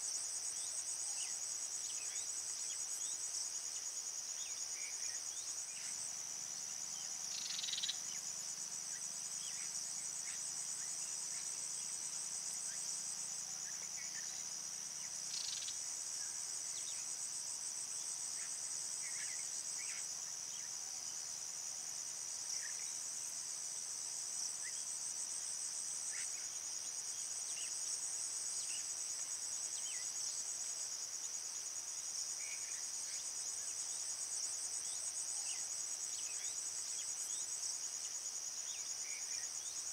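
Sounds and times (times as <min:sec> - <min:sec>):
crickets trilling: 0:00.2 - 0:39.9.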